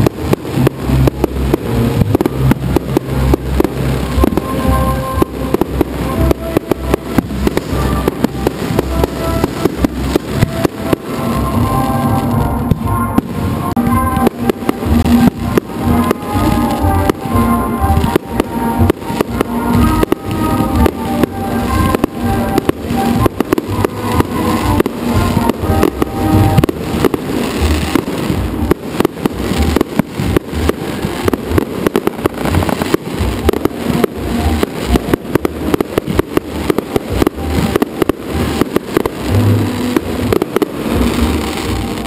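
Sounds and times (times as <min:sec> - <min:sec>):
fireworks bangs and crackles: 0:00.0 - 0:42.0
music playing: 0:00.0 - 0:42.0.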